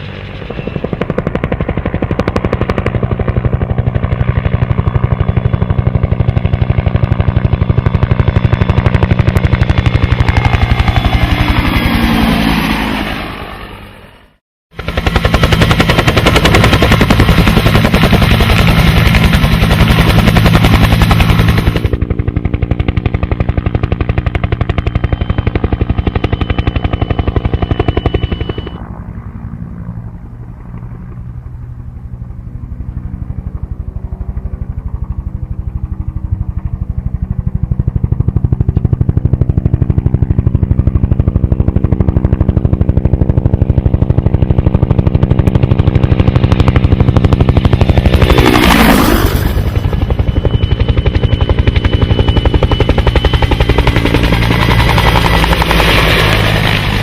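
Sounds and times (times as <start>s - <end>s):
aircraft engine running: 0.0s - 57.0s.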